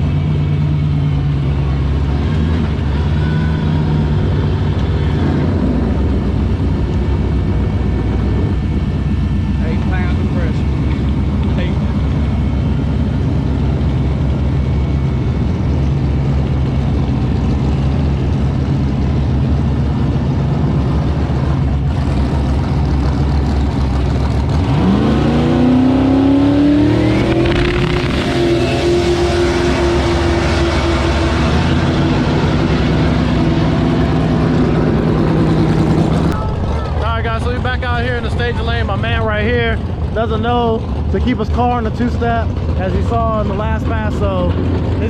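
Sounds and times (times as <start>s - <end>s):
race car engine revving: 0.0s - 45.0s.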